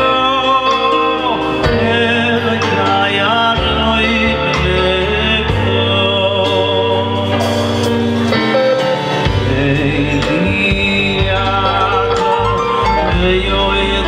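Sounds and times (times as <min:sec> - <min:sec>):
drums: 0:00.0 - 0:14.0
electric guitar: 0:00.0 - 0:14.0
keyboard: 0:00.0 - 0:14.0
man singing into a microphone: 0:00.0 - 0:14.0
steady bass line: 0:00.0 - 0:14.0.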